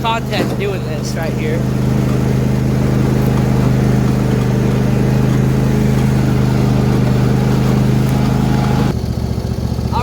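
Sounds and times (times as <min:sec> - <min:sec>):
lawn tractor engine running: 0:00.0 - 0:10.0.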